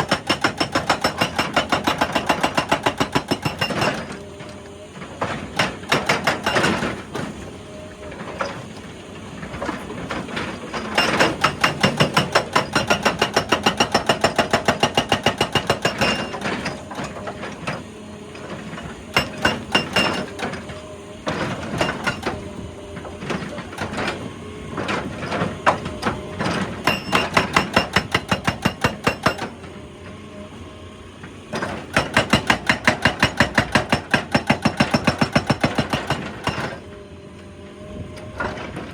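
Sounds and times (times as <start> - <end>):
hydraulic breaker hammering rock: 0.0 - 7.4, 9.6 - 29.7, 31.5 - 36.9.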